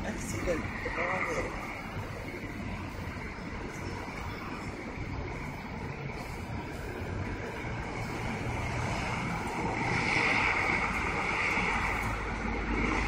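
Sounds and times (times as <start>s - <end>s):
street traffic rush: 0.0s - 13.0s
vehicle passing: 0.0s - 13.0s.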